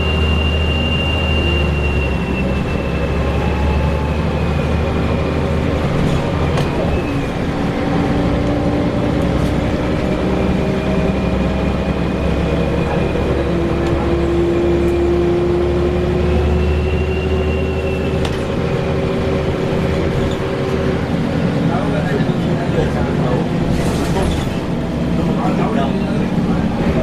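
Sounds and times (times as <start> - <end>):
bus engine drone: 0.0 - 27.0.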